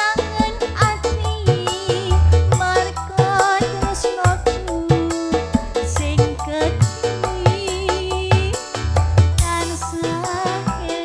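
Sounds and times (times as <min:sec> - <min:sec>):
live keroncong music: 0:00.0 - 0:11.0.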